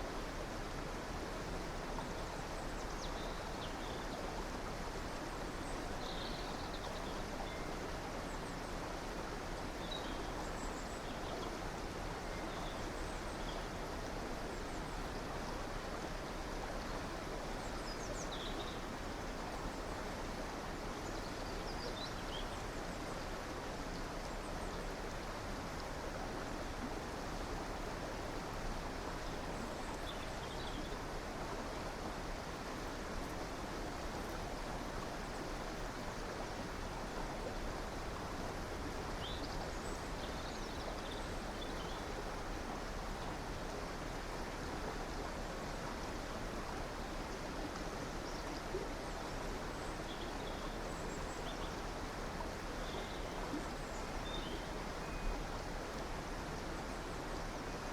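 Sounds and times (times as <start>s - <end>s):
stream flowing: 0.0s - 57.9s.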